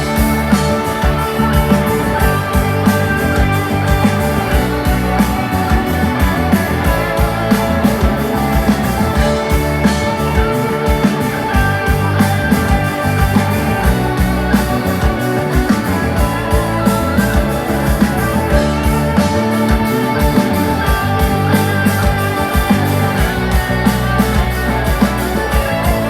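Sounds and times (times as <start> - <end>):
loud music with drums bass and guitar: 0.0 - 26.0.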